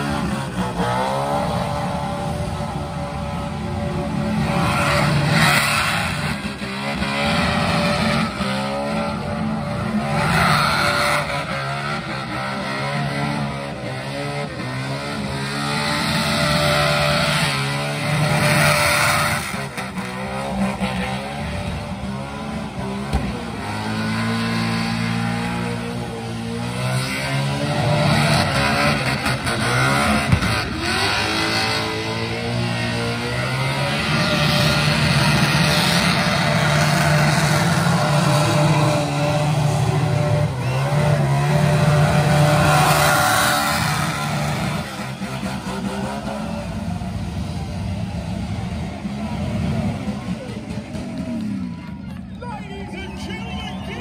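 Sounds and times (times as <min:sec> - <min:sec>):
car engine revving hard: 0:00.0 - 0:51.5.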